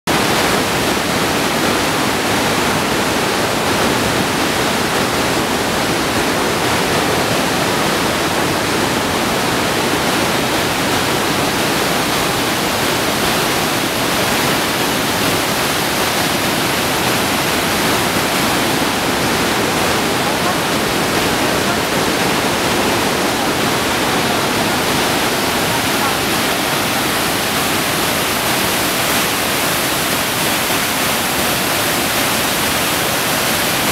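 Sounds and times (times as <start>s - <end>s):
waterfall rushing over rocks: 0.1s - 33.9s.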